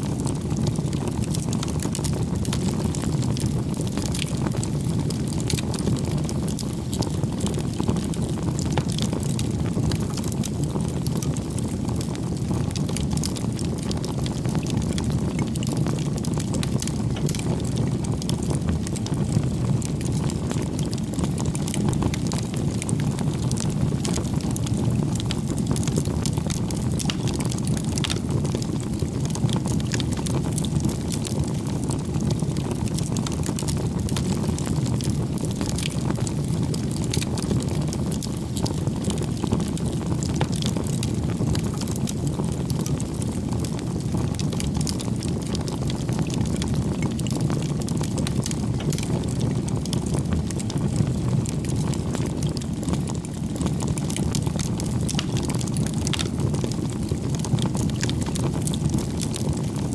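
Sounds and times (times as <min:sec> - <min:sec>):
campfire flames rumbling: 0:00.0 - 0:59.9
fire crackling and popping: 0:00.0 - 0:59.9.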